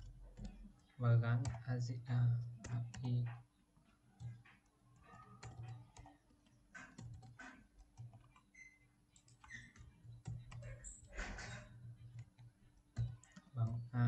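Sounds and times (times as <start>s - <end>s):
typing on keyboard: 0.0s - 1.7s, 2.6s - 3.4s, 4.2s - 14.0s.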